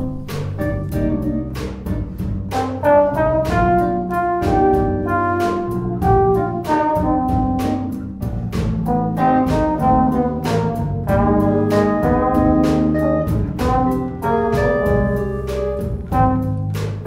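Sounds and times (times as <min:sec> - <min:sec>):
jazz band playing live: 0:00.0 - 0:17.0
trombone held notes: 0:00.0 - 0:17.0.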